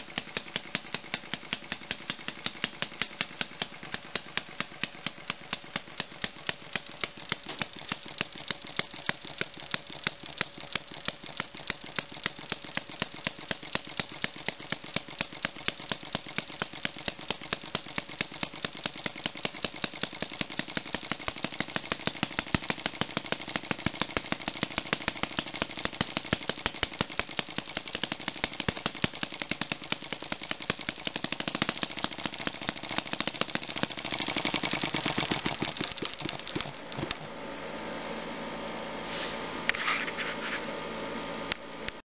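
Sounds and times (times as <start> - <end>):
model engine exhaust pops: 0.0 - 37.3.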